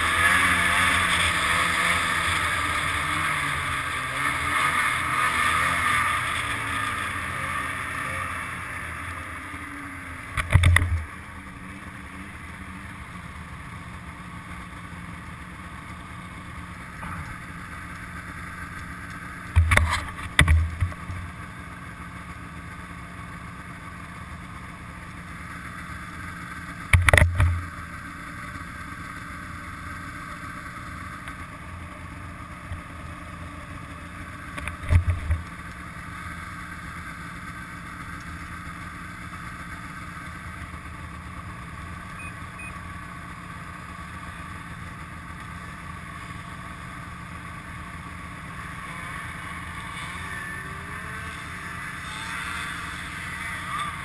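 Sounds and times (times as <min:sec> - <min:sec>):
snowmobile engine: 0:00.0 - 0:54.0.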